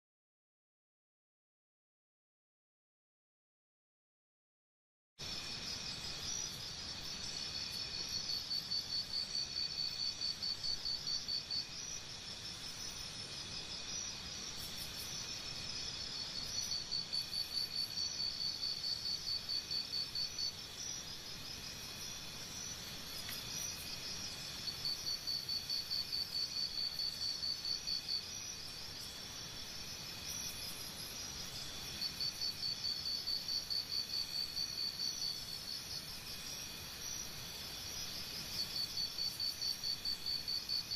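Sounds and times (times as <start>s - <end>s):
insect chirping trill: 5.2s - 40.9s
insect chorus: 5.2s - 40.9s.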